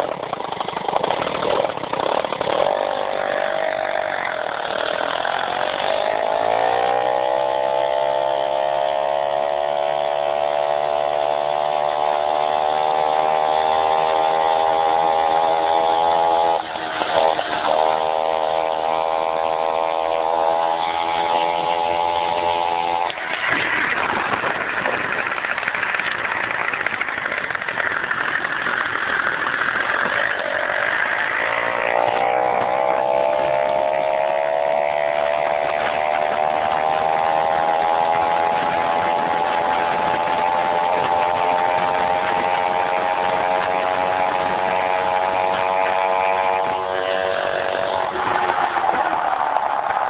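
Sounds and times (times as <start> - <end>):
moped engine running: 0.0 - 50.0.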